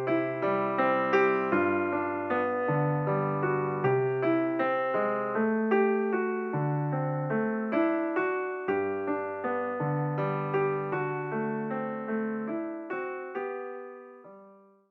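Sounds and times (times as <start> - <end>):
calm slow piano music: 0.0 - 14.9.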